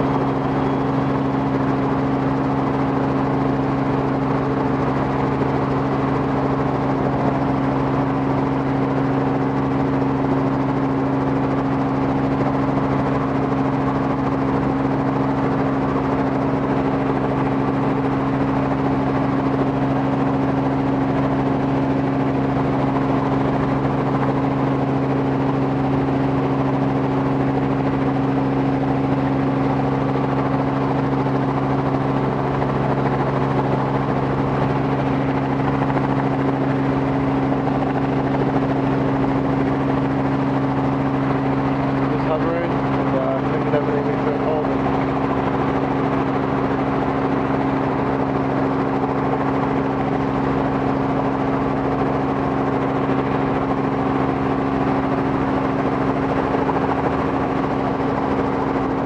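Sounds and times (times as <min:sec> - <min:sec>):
helicopter engine and rotors droning: 0:00.0 - 0:59.0.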